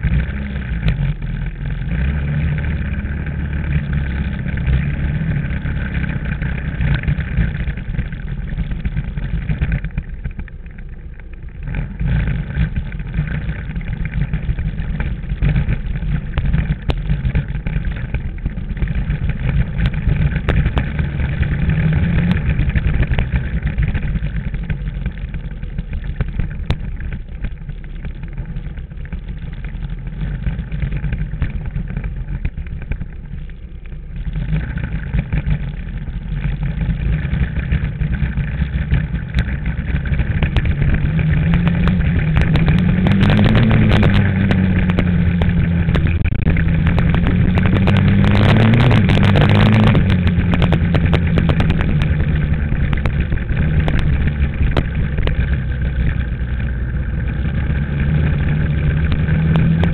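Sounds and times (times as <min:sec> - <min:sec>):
dirt bike engine revving: 0:00.0 - 0:10.1, 0:11.6 - 0:27.1, 0:34.3 - 0:59.9.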